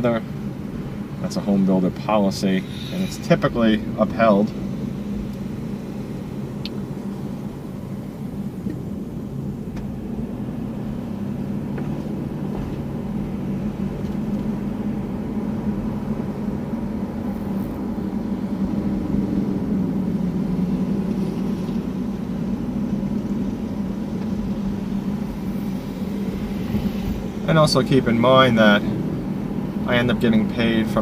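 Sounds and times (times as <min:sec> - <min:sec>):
car engine and road hum: 0:00.0 - 0:31.0.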